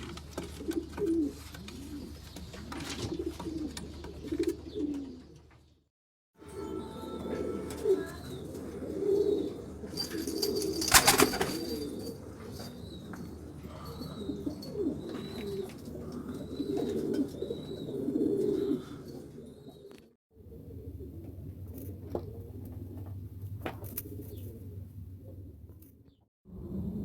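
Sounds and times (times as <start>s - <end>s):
pigeons cooing: 0.0s - 5.7s, 6.5s - 23.2s, 23.9s - 25.6s.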